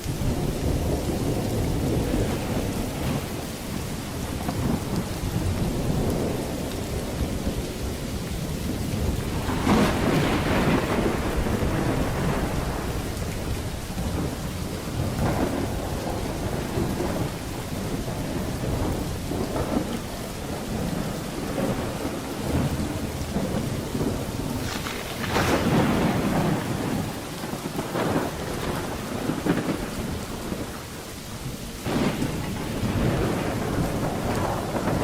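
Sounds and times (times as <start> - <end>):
heavy rain: 0.0 - 35.0
rolling thunder: 0.0 - 35.0.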